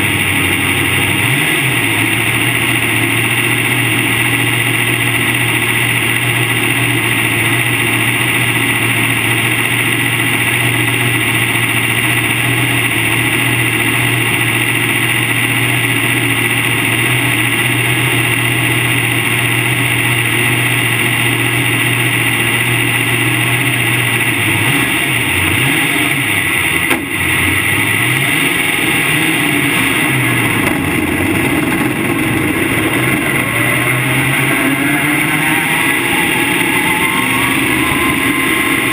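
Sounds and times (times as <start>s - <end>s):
race car engine idling and revving: 0.0s - 38.9s.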